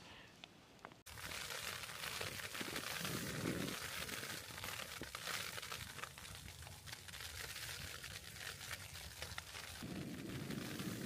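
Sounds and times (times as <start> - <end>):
tent fabric rustling and crinkling: 1.0 - 11.0.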